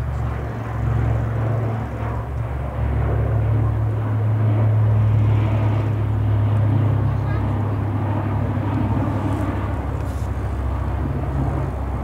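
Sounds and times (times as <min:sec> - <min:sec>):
propeller aircraft flying over: 0:00.0 - 0:12.0.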